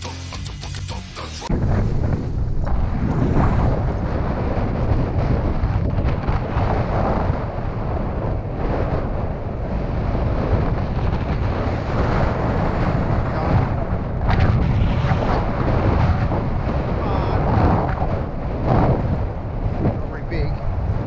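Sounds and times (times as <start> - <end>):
wind buffeting microphone: 1.5 - 21.0.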